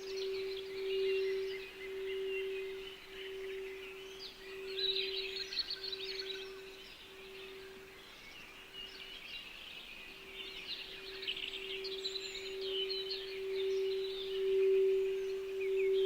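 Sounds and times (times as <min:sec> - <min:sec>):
low meditation tone: 0:00.0 - 0:16.0
small birds chirping: 0:00.0 - 0:16.0.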